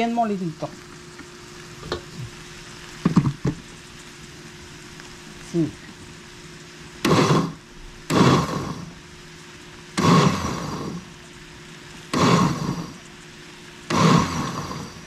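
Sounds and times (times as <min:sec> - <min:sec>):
blender motor pulsing: 0:00.0 - 0:15.0.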